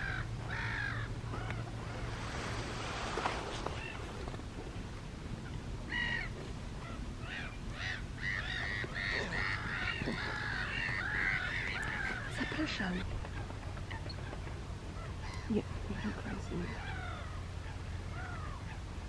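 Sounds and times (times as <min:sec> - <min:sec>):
gulls calling: 0:00.0 - 0:02.6, 0:03.2 - 0:04.4, 0:05.2 - 0:19.0.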